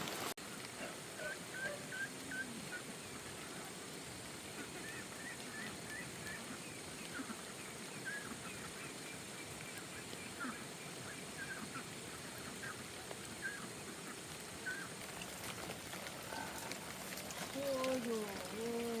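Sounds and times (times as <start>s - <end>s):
poultry calling: 0.6s - 19.0s.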